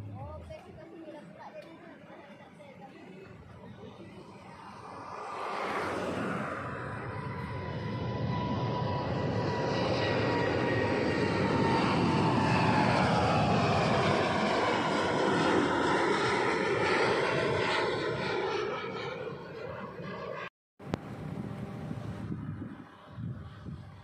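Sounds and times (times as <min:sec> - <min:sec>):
jet engines passing overhead: 0:00.0 - 0:24.0.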